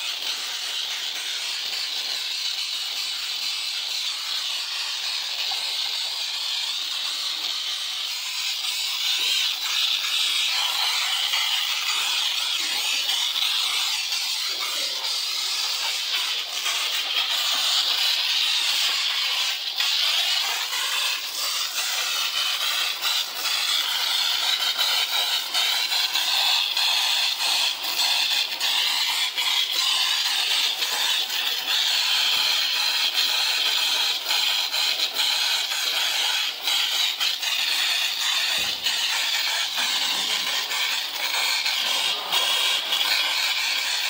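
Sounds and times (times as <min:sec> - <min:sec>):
hose water jet spraying: 0:00.0 - 0:44.0.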